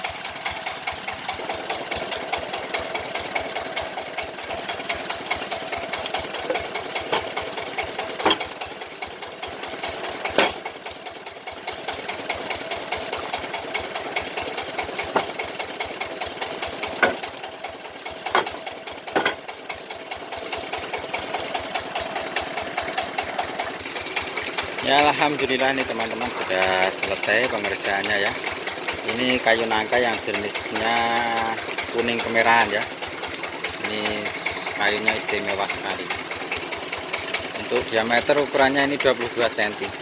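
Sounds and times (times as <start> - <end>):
small machine motor running: 0.0 - 40.0.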